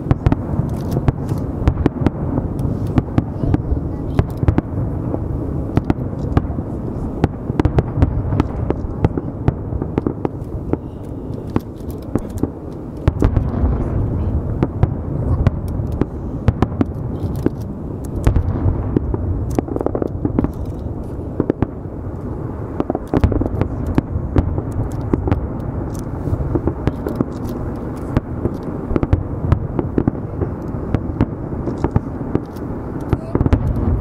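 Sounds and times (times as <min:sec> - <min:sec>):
continuous low rumble: 0:00.0 - 0:34.0
fireworks bangs and crackles: 0:00.0 - 0:34.0.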